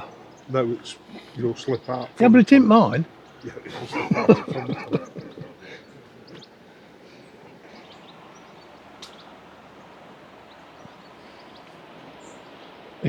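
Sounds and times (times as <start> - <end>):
faint bird chirps: 0.0 - 13.0
low rush of river: 0.0 - 13.0.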